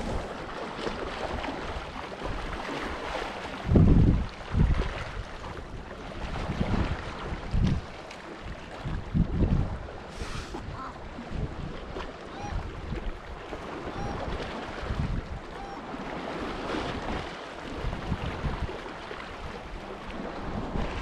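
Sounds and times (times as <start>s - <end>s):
wind gusting over microphone: 0.0s - 21.0s.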